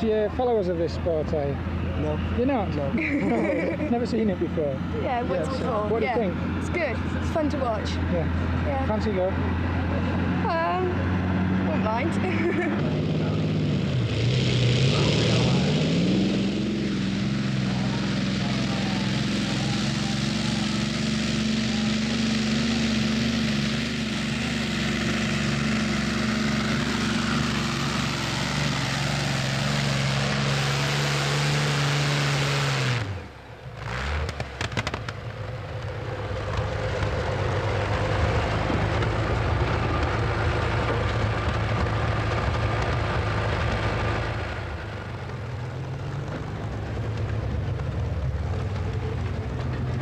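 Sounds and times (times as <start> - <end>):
tractor engine revving hard: 2.1 - 50.0.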